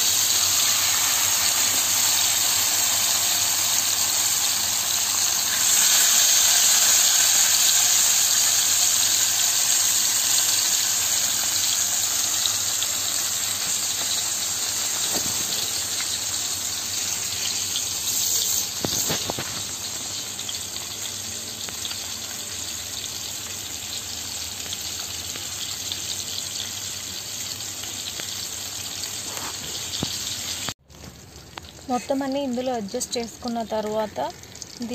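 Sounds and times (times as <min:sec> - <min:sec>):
fish sizzling in hot oil: 0:00.0 - 0:34.9.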